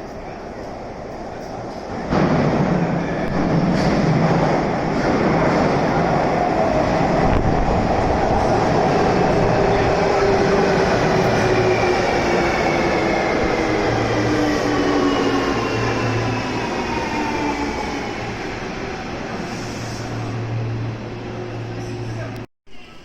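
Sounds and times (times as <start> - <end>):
train rumbling: 0.0 - 22.5.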